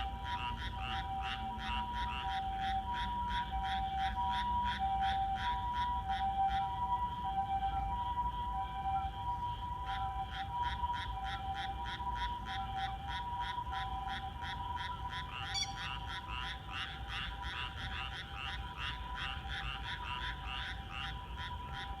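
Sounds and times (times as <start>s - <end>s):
frogs calling: 0.0s - 22.0s.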